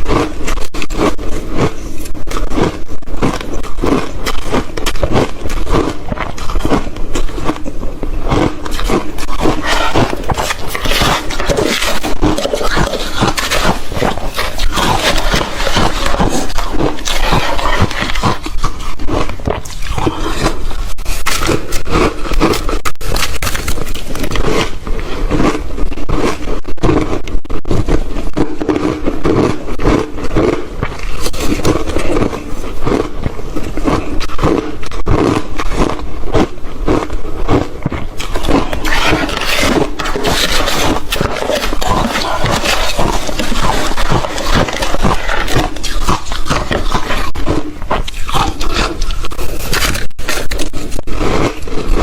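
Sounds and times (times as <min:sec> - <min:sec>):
ice being chewed crunching: 0:00.0 - 0:52.0.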